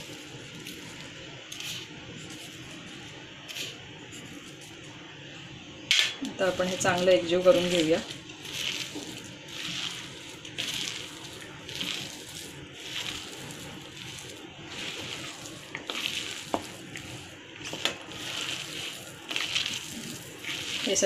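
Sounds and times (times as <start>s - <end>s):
hands squishing wet mash: 0.0s - 4.4s, 6.4s - 21.0s.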